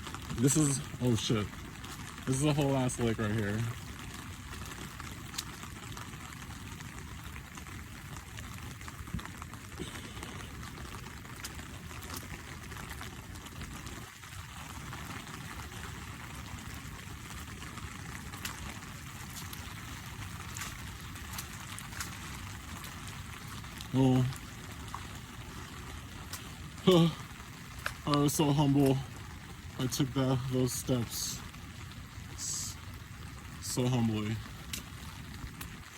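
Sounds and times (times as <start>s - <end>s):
pouring water: 0.0s - 35.9s
rain rushing: 0.0s - 35.9s.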